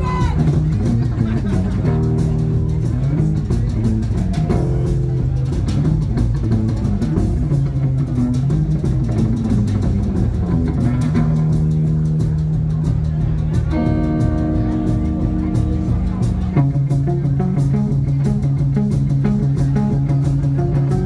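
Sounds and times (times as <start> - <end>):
drum kit: 0.0 - 21.0
electric bass guitar: 0.0 - 21.0
electric guitars: 0.0 - 21.0.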